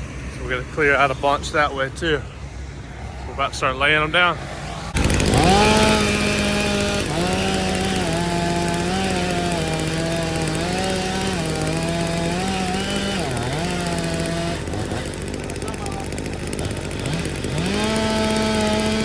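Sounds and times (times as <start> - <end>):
chainsaw cutting at full throttle: 0.1 - 19.0.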